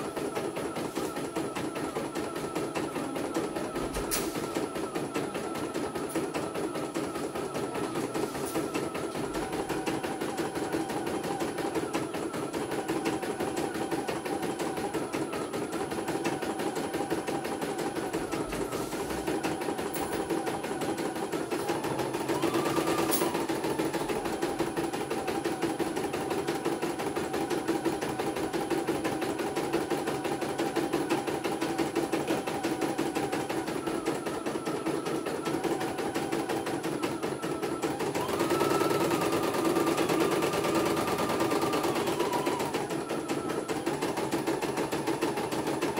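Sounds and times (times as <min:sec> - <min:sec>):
faint machine whine: 0:00.0 - 0:45.9.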